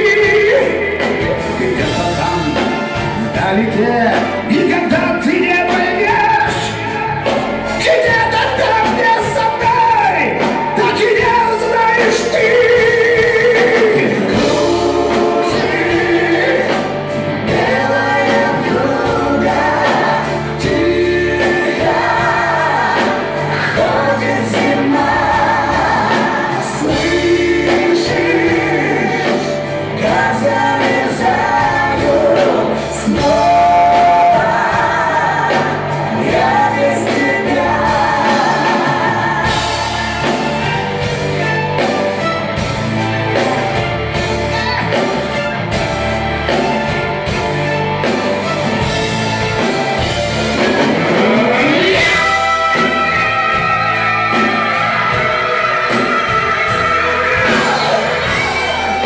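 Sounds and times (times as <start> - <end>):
backing vocals: 0.0 - 42.0, 48.0 - 59.0
person singing: 0.0 - 42.2, 49.6 - 59.0
live band playing rock ballad: 0.0 - 59.0.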